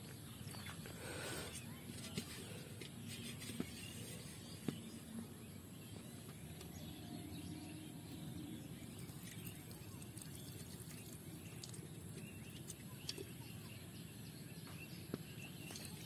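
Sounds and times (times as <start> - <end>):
faint birds: 0.0 - 16.0.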